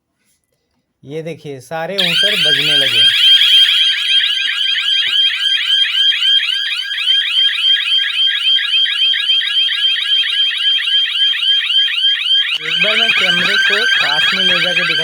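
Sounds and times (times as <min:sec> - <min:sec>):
alarm hooters warbling: 0:02.0 - 0:15.0.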